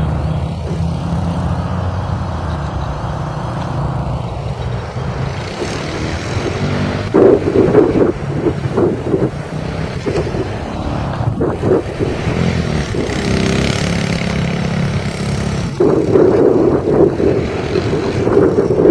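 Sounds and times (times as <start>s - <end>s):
quad bike engine revving: 0.0s - 18.9s.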